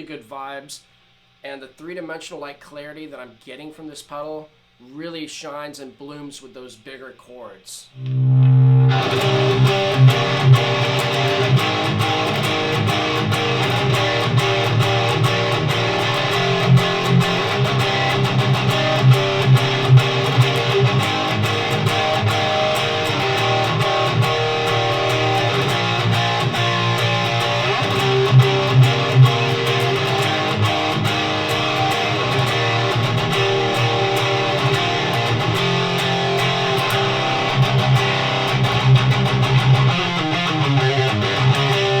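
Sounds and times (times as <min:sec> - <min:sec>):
distorted electric guitar riff: 0:07.9 - 0:42.0.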